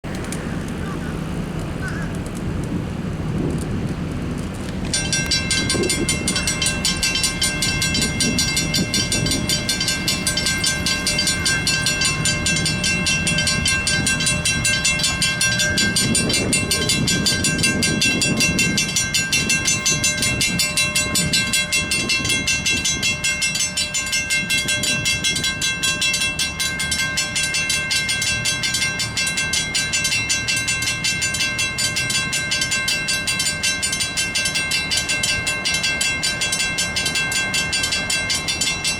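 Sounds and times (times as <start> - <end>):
railroad crossing bells ringing: 4.6 - 38.9.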